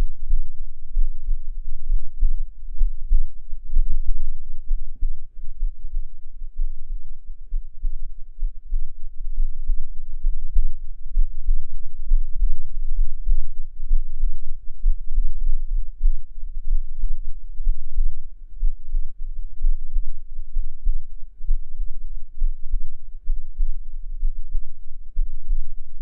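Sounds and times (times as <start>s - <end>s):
human heartbeat: 0.0s - 26.0s.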